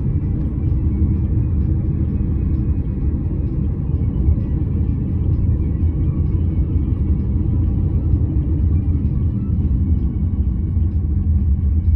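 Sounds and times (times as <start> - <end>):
car road rumble: 0.0 - 11.9.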